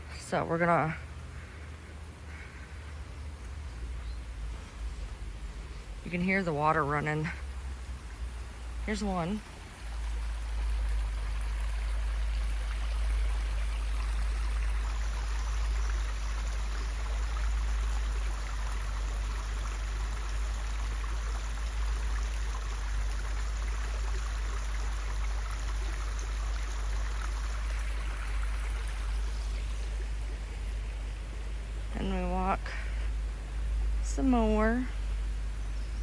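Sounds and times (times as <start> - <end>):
creek flowing over rocks: 0.0 - 35.8.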